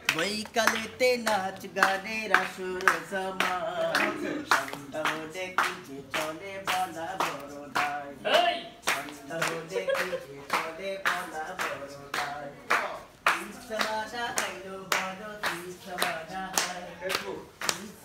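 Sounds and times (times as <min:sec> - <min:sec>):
people clapping in time: 0:00.0 - 0:08.0, 0:08.8 - 0:18.0.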